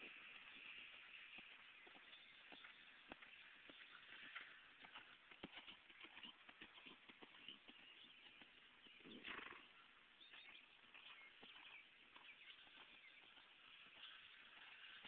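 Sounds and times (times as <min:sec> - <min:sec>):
hoofbeats on sand: 0:00.0 - 0:15.0.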